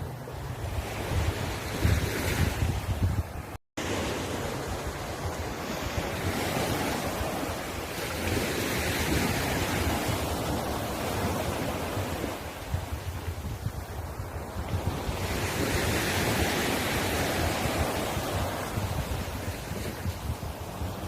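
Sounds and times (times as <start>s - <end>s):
sea waves washing onto shore: 0.9s - 21.0s.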